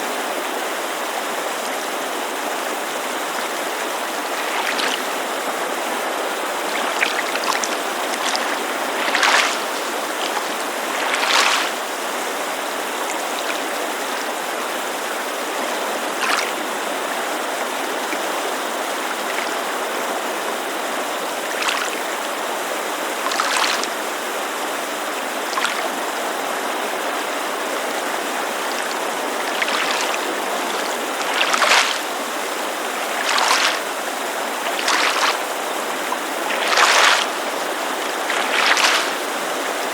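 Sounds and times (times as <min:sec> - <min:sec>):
mountain creek rushing: 0:00.0 - 0:39.9
small waves lapping on shore: 0:00.0 - 0:39.9.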